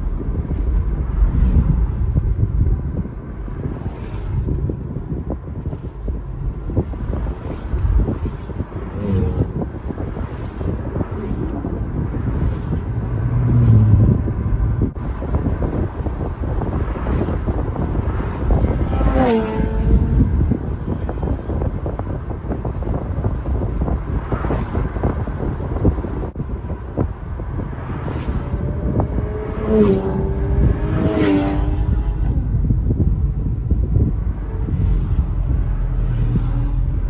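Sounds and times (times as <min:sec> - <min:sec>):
road and engine rumble: 0:00.0 - 0:37.0
wind buffeting microphone: 0:00.0 - 0:37.0.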